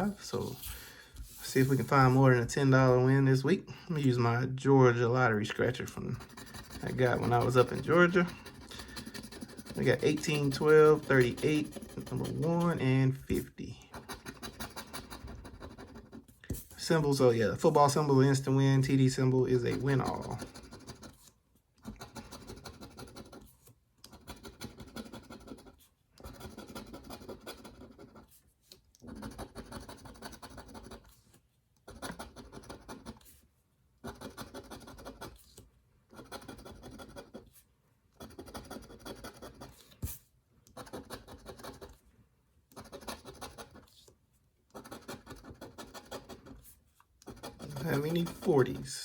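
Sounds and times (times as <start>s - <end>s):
scratching lottery ticket: 5.4s - 28.4s, 29.0s - 33.4s, 34.0s - 37.6s, 38.2s - 40.0s, 40.7s - 42.0s, 42.7s - 44.1s, 44.7s - 49.0s.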